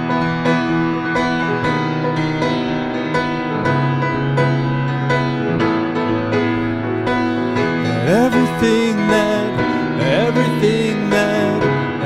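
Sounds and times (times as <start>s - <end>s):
grand piano chords: 0.0s - 12.0s.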